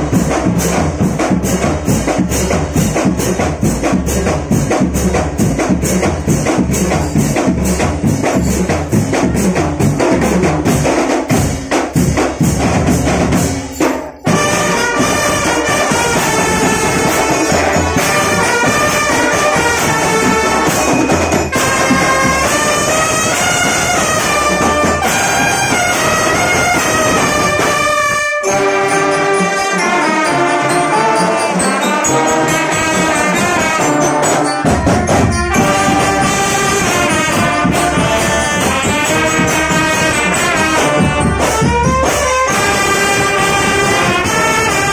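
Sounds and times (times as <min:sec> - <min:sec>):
brass band melody: 0:00.0 - 0:44.9
marching drums: 0:00.0 - 0:44.9.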